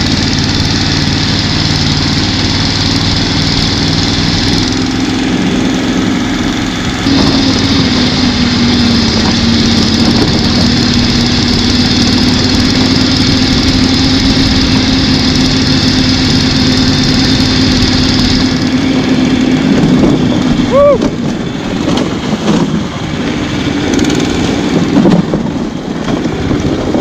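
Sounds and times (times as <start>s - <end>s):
small engine running under load: 0.0s - 27.0s.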